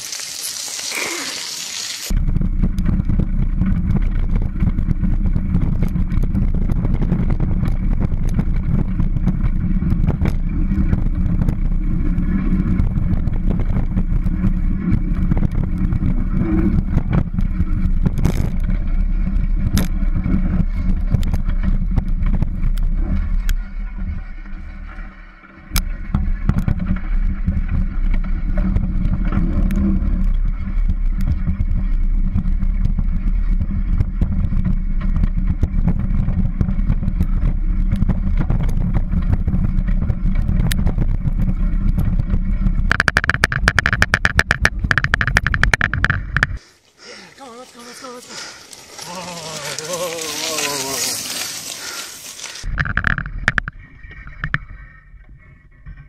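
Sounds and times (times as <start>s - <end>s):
scooter rolling over gravel: 0.0s - 55.5s
rattles and knocks: 2.2s - 25.2s, 25.8s - 46.6s, 52.6s - 56.0s.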